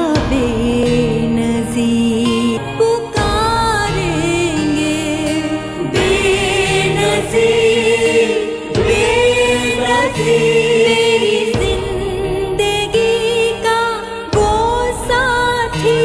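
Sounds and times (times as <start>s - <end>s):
music with singing: 0.0s - 16.0s.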